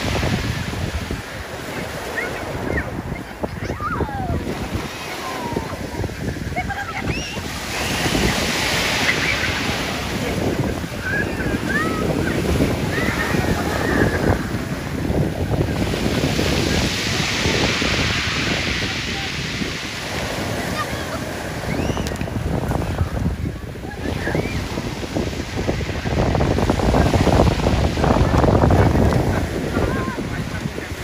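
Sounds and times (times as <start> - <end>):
sea waves breaking on shingle: 0.0 - 31.0
wind buffeting microphone: 0.0 - 31.0.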